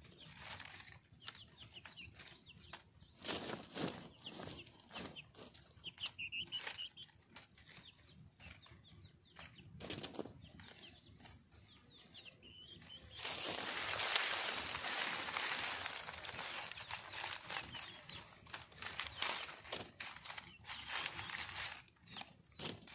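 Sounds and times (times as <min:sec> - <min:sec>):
rustling and flapping: 0:00.0 - 0:11.4, 0:12.8 - 0:22.9
high bird chirps: 0:00.0 - 0:22.9.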